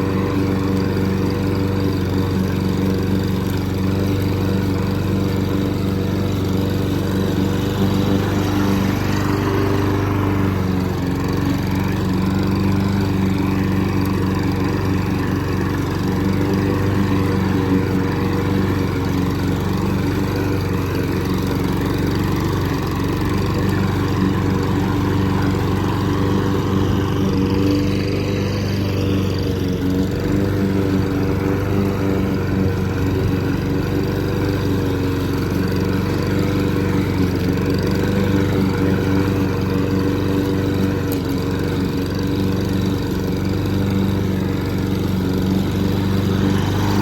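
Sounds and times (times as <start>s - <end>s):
lawn mower engine running: 0.0s - 47.0s.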